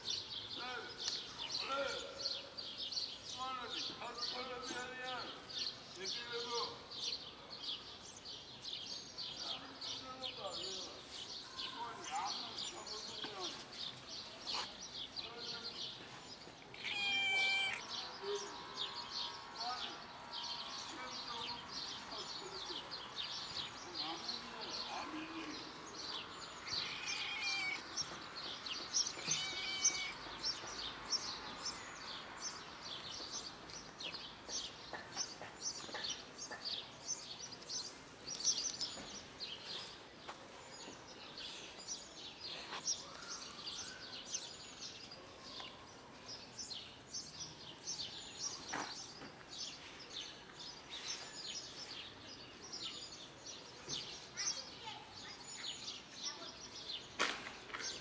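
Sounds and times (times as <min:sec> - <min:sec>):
outdoor background noise: 0:00.0 - 0:58.0
small birds chirping: 0:00.0 - 0:58.0.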